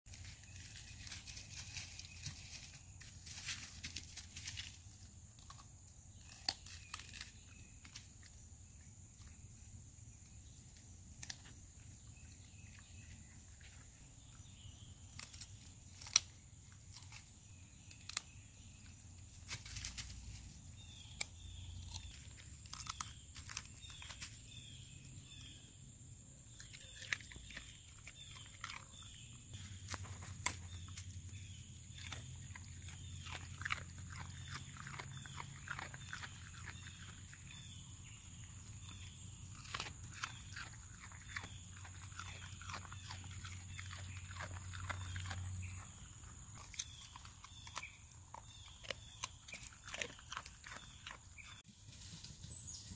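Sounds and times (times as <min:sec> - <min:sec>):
coyote chewing crunchy food: 0:00.1 - 0:51.8.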